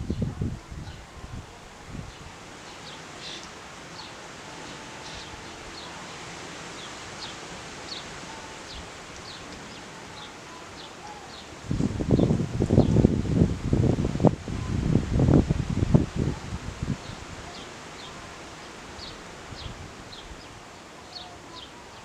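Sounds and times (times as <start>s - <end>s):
wind rustling leaves: 0.0s - 22.0s.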